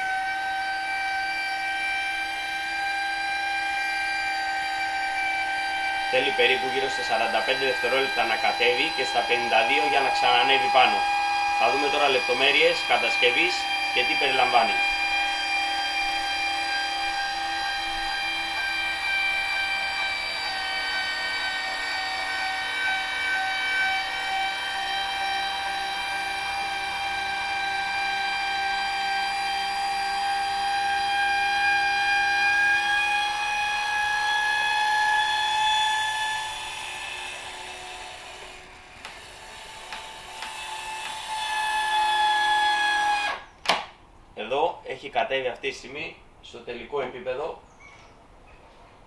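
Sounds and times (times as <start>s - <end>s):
electric motor whining: 0.0s - 43.5s.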